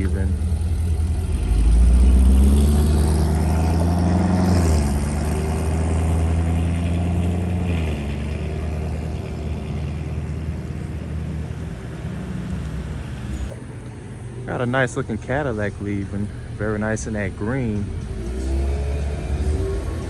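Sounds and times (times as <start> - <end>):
car engine pulling away: 0.0 - 13.6, 16.4 - 20.0.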